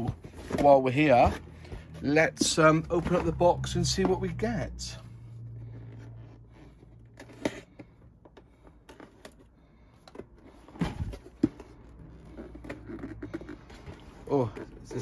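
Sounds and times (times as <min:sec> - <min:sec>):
hands handling cardboard box: 0:00.0 - 0:04.5, 0:06.0 - 0:15.0.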